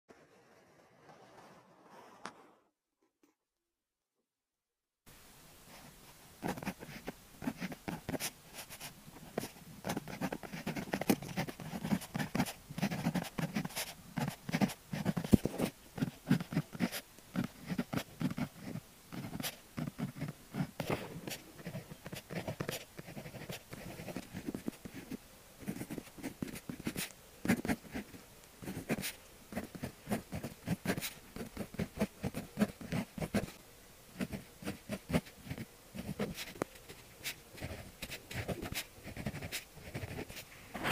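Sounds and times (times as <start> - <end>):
pen writing on paper: 6.5 - 33.5, 34.2 - 40.9.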